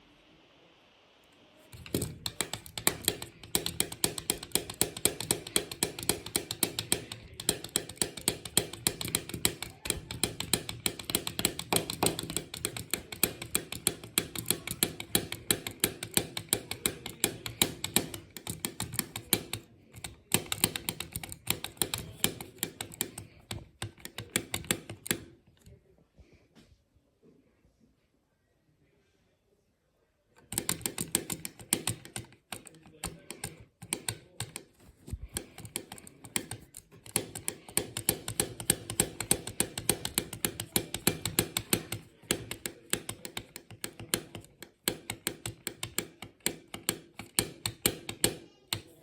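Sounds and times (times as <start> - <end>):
rapid keyboard typing: 1.7 - 25.4, 30.4 - 49.0.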